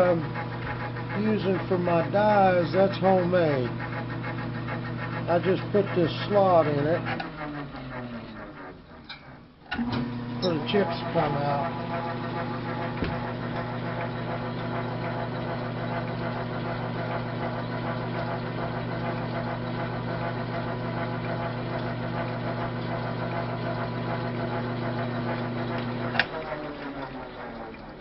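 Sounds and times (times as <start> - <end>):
lathe humming: 0.0 - 9.1, 9.7 - 27.6.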